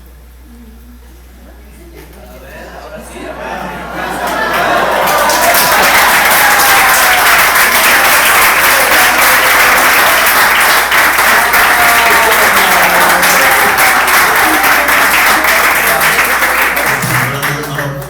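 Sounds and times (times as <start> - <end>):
audience applauding: 3.5 - 18.0.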